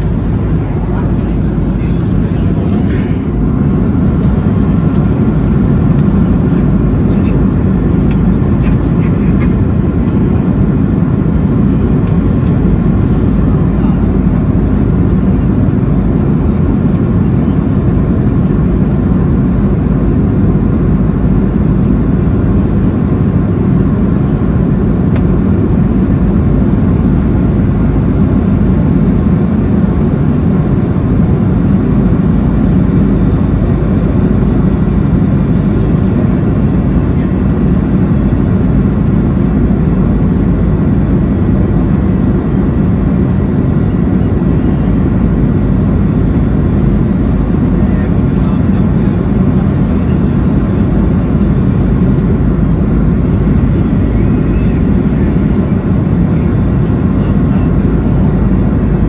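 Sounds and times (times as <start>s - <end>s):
airliner cabin roar: 0.0s - 59.0s.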